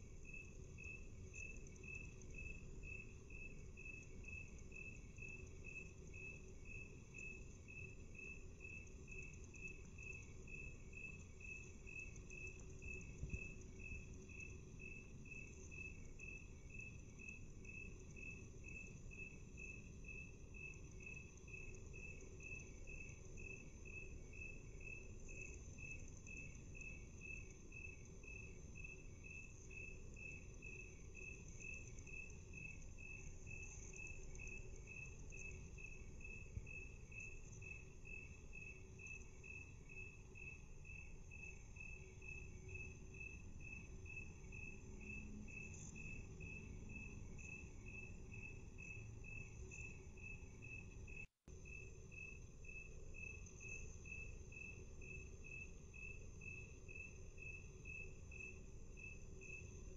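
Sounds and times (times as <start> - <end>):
low background hiss: 0.0 - 59.9
slowed cricket chirps: 0.0 - 59.9.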